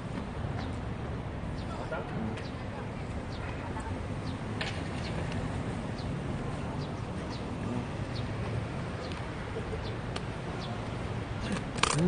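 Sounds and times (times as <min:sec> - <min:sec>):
low rumble of street traffic: 0:00.0 - 0:12.0
sparrows chirping: 0:01.6 - 0:11.5.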